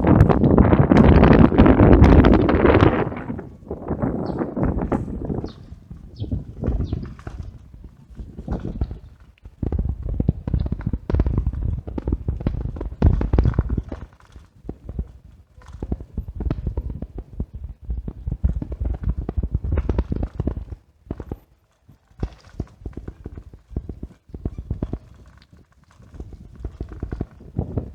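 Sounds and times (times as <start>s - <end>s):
bicycle rattling and knocking: 0.0s - 27.9s.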